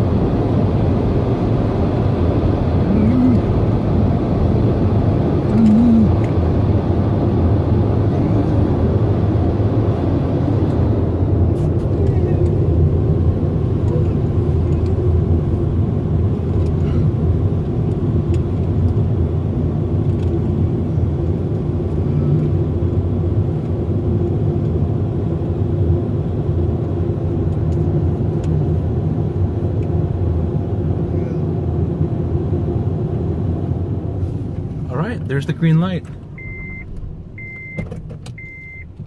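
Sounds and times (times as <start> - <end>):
car wash machinery rumble: 0.0 - 39.0.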